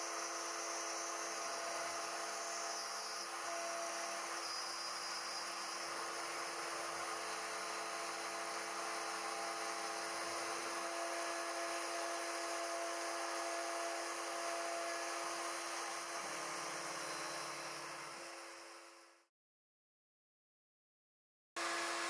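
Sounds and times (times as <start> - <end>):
router spindle whine: 0.0 - 19.3, 21.6 - 22.0.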